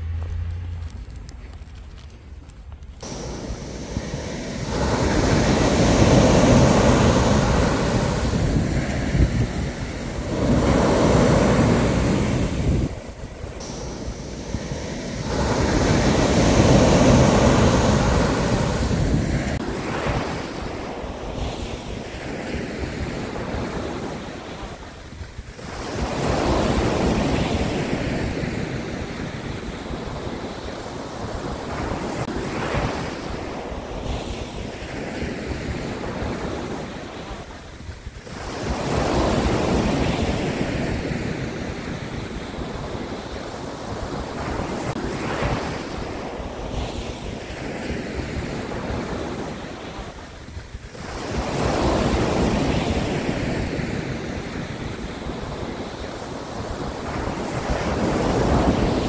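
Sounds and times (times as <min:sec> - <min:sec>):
wind buffeting microphone: 0:00.0 - 0:59.0
waves breaking on beach: 0:03.0 - 0:59.0.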